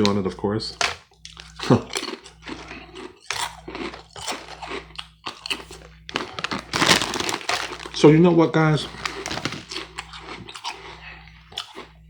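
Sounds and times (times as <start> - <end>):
crunchy food chewing: 0.0 - 12.0.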